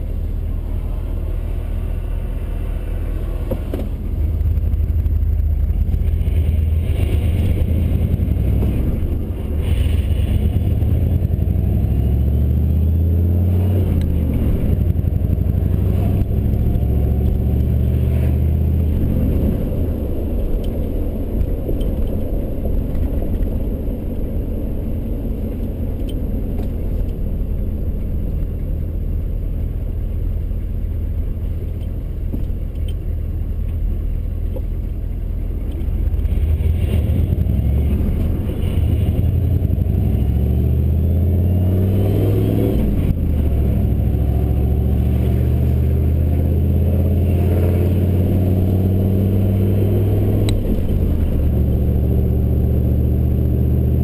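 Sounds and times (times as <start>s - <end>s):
diesel truck engine: 0.0s - 54.0s.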